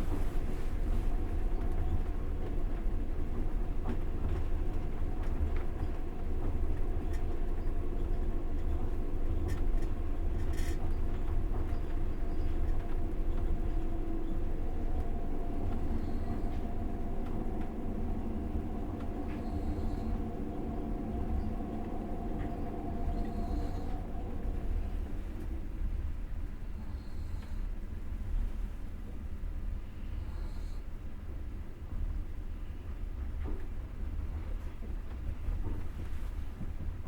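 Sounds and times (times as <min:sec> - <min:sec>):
train wheels rumbling on rails: 0:00.0 - 0:29.6, 0:31.2 - 0:37.0.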